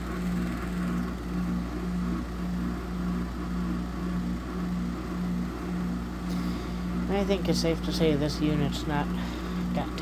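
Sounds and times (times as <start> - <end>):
air conditioner throbbing hum: 0.0 - 10.0.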